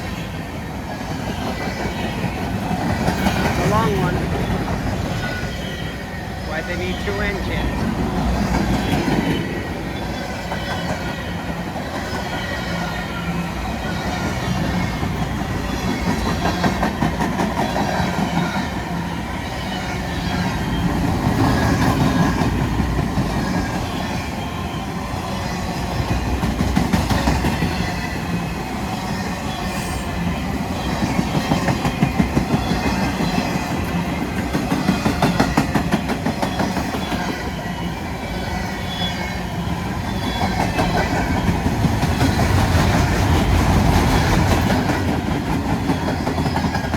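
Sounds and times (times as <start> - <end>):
freight train wheels clicking: 6.6 - 37.6, 39.7 - 46.9.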